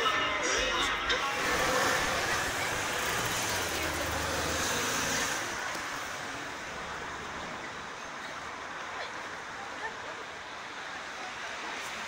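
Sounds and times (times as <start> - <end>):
general traffic noise: 0.0 - 12.0
vehicle engine humming nearby: 1.0 - 12.0.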